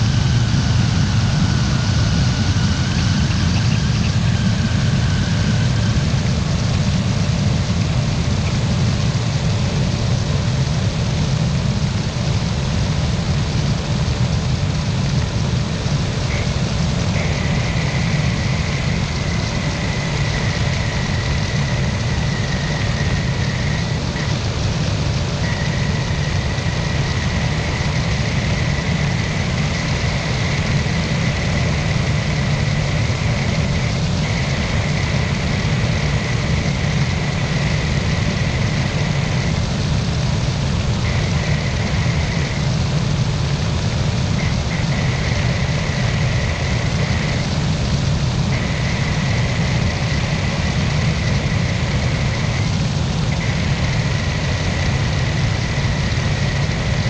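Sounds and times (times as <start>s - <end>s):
propeller engine running: 0.0s - 57.0s
thin high whine: 0.0s - 57.0s.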